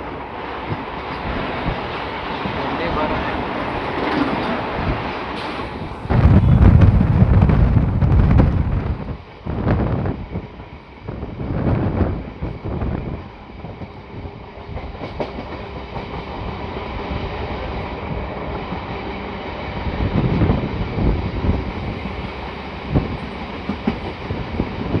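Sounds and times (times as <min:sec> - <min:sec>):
train coach rumbling and rattling: 0:00.0 - 0:25.0.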